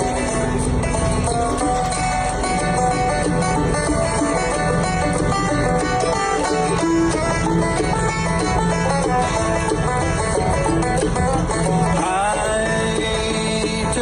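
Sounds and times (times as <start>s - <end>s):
banjo picking: 0.0s - 14.0s
guitar: 0.0s - 14.0s.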